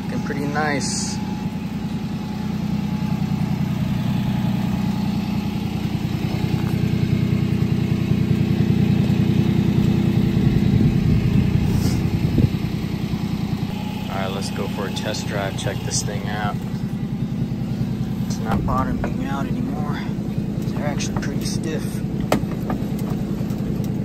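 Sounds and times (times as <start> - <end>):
small engine idling: 0.0 - 24.0.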